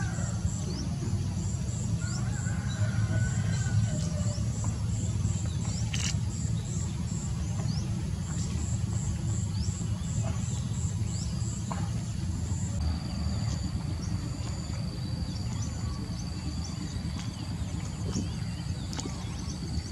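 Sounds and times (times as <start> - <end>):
constant low rumble: 0.0 - 19.9.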